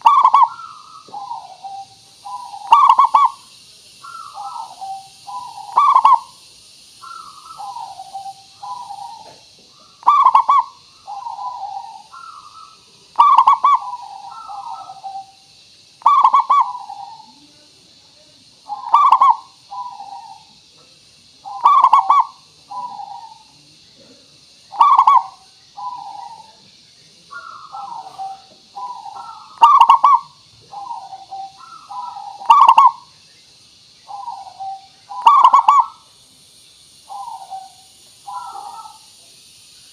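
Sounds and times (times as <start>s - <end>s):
dove cooing: 0.0s - 6.4s, 7.0s - 17.5s, 18.6s - 20.6s, 21.4s - 26.7s, 27.3s - 33.1s, 34.1s - 36.0s, 37.1s - 39.2s
steady high hiss: 0.0s - 39.9s.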